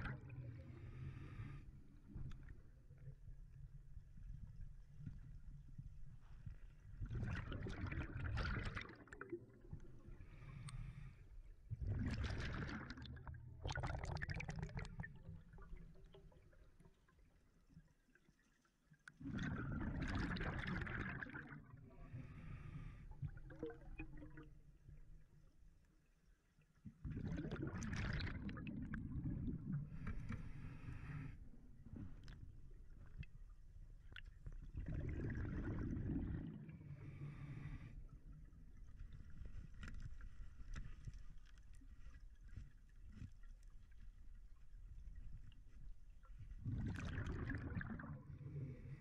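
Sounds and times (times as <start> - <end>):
exhaled bubbles gurgling underwater: 0.0 - 17.4, 19.1 - 25.3, 26.8 - 49.0.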